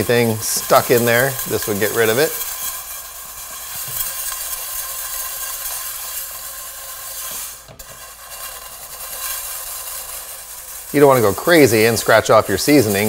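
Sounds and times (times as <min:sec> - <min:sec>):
chainmail scrubber scratching skillet: 0:00.0 - 0:13.0.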